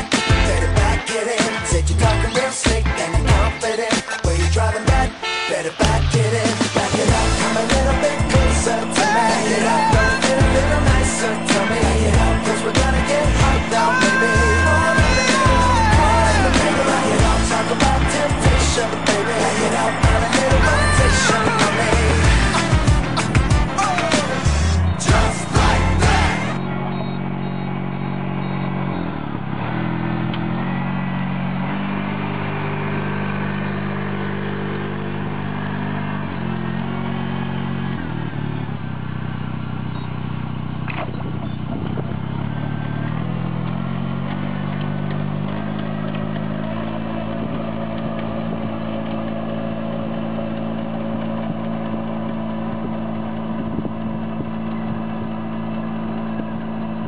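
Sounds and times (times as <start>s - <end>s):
rice transplanter engine running: 4.4s - 57.0s.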